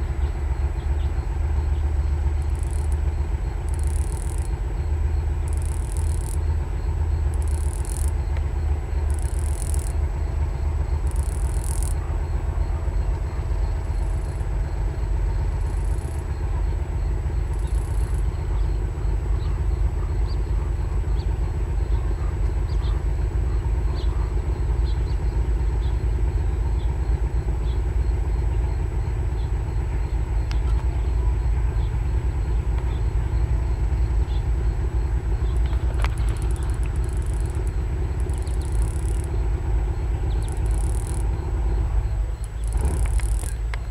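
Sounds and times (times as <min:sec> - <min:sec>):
cicada ratchet-like call: 0:00.0 - 0:43.9
steady low rumble: 0:00.0 - 0:43.9.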